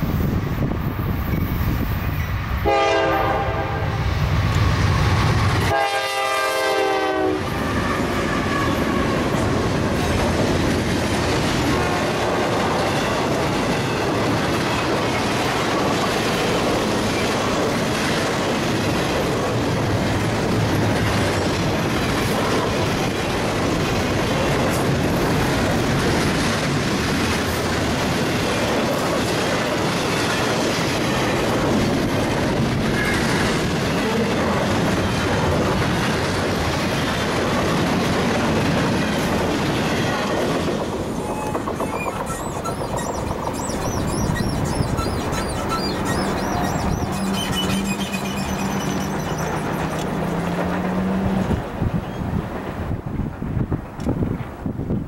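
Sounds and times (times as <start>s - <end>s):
freight train wheels clattering on rails: 4.2s - 55.0s.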